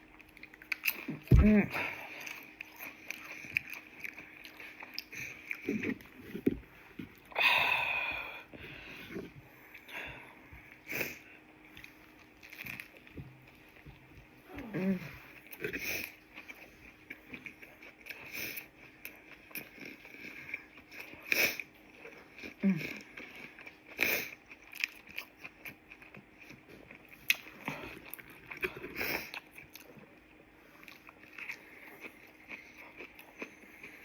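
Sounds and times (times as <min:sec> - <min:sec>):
person chewing and crunching: 0:00.0 - 0:34.0.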